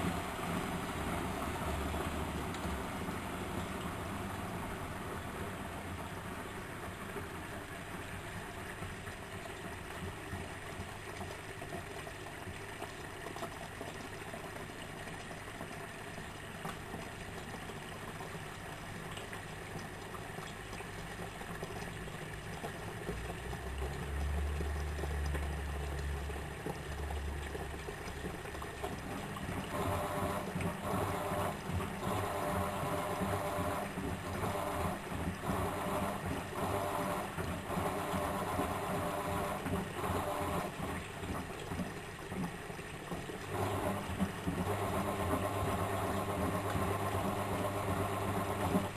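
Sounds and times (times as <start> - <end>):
pulsing washing machine motor: 0.0 - 48.9
water gurgling in washing machine: 0.0 - 48.9.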